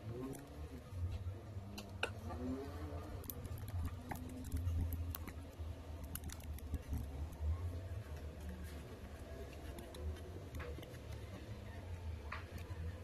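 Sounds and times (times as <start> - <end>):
fingers clicking and tapping laptop: 1.8 - 13.0.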